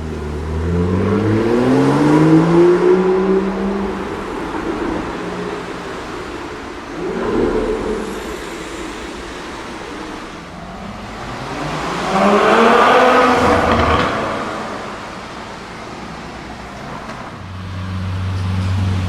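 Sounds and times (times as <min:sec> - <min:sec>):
car engines accelerating past: 0:00.0 - 0:19.0.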